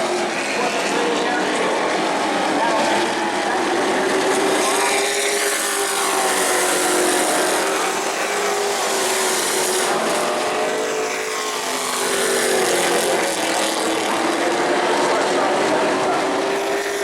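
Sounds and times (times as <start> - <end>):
race truck engines at speed: 0.0 - 17.0.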